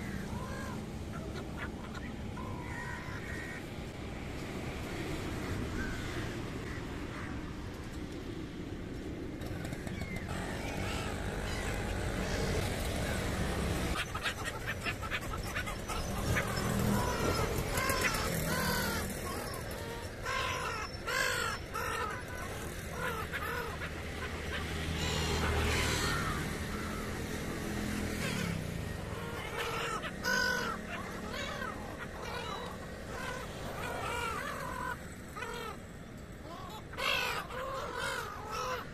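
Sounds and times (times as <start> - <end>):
gulls squawking: 0.0 - 3.8, 9.6 - 38.9.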